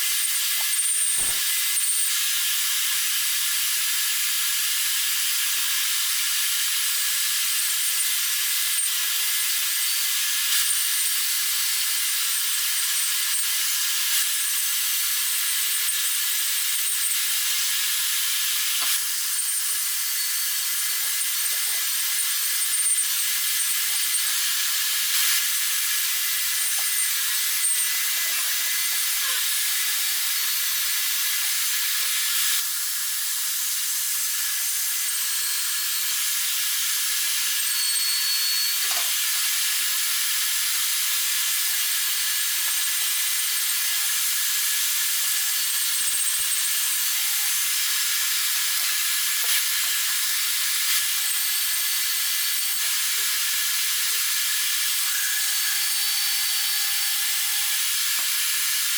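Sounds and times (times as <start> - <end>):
welding sizzling hiss: 0.0 - 58.9.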